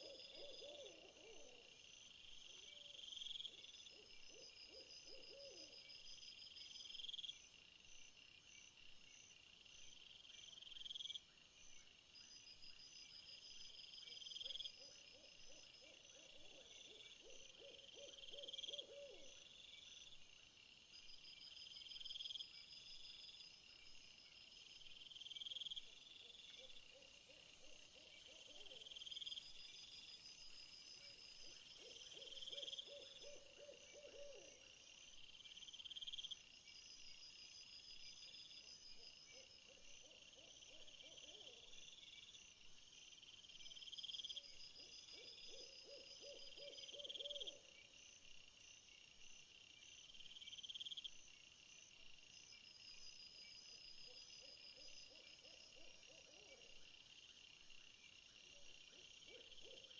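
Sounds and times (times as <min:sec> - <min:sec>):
crickets chirping: 0:00.0 - 0:59.9
lower pulsed insect call: 0:00.0 - 0:59.9.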